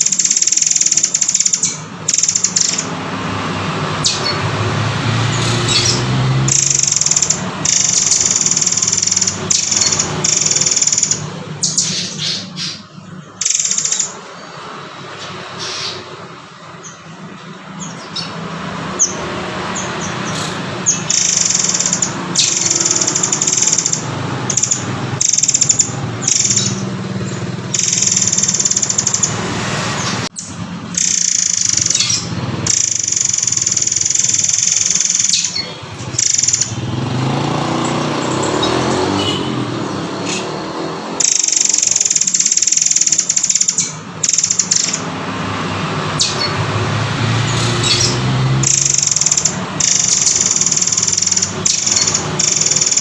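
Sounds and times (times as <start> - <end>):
bird singing high notes: 0.0 - 53.0.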